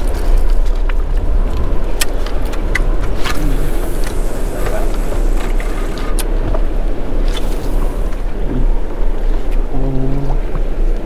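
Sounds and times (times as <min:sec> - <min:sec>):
wind and water around hull: 0:00.0 - 0:11.0.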